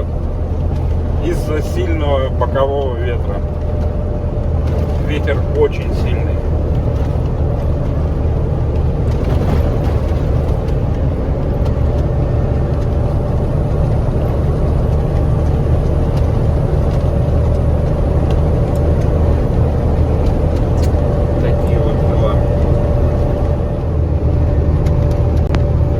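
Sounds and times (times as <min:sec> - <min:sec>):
road and wind noise: 0:00.0 - 0:25.9
truck diesel engine droning: 0:00.0 - 0:25.9.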